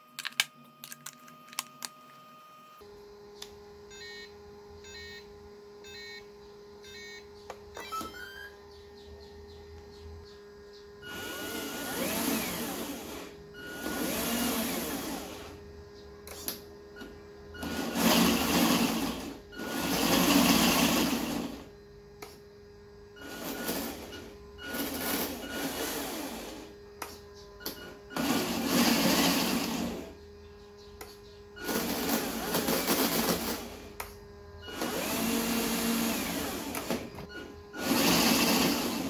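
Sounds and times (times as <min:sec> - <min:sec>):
electric motor and gearbox whirring: 0:00.0 - 0:22.4, 0:23.1 - 0:39.0.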